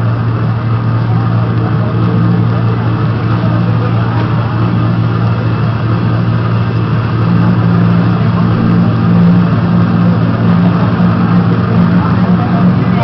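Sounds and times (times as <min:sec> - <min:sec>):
higher hum: 0:00.0 - 0:13.0
low droning hum: 0:00.0 - 0:13.0
rushing noise: 0:00.0 - 0:13.0.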